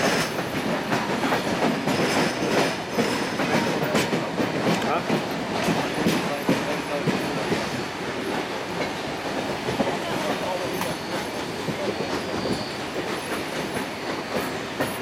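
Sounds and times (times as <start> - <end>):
train running rumble: 0.0 - 15.0
train wheels clattering over rail joints: 0.0 - 15.0.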